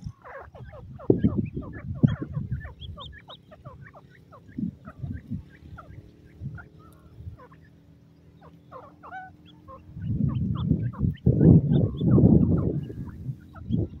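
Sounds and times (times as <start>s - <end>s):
chicks peeping: 0.0s - 14.0s
rough low rumbling noise: 0.0s - 14.0s.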